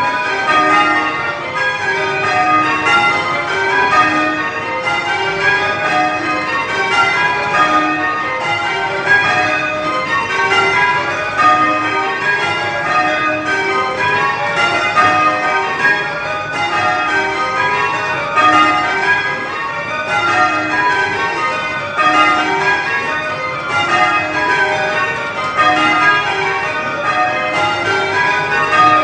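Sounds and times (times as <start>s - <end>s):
church bells ringing changes: 0.0s - 29.0s.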